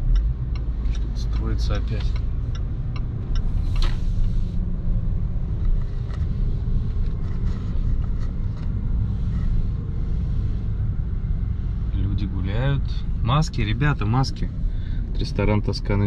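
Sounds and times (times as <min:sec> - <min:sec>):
car driving rumble from inside: 0:00.0 - 0:16.0.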